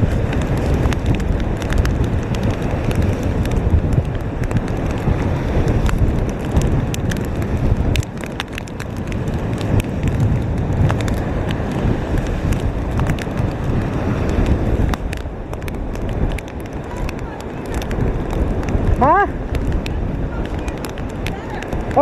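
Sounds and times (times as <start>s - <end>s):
rain striking microphone: 0.0s - 22.0s
strong wind buffeting microphone: 0.0s - 22.0s.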